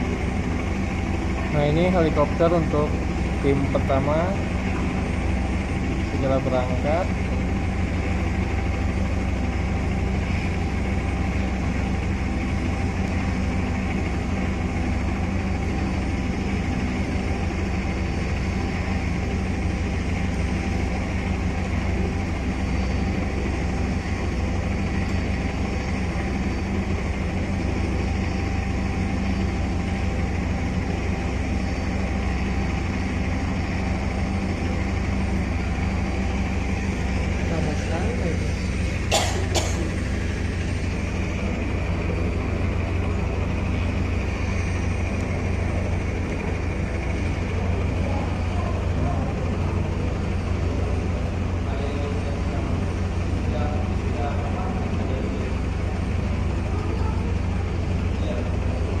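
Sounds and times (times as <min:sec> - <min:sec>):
helicopter low drone: 0:00.0 - 0:59.0
helicopter whine: 0:00.0 - 0:59.0.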